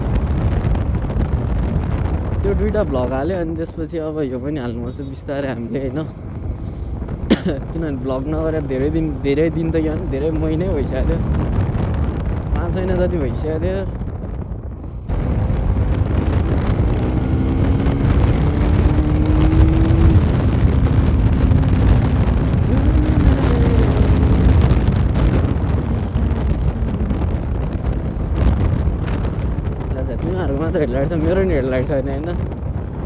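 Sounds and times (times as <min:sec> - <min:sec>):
wind rumble on microphone: 0:00.0 - 0:33.0
motorcycle engine running: 0:05.8 - 0:33.0.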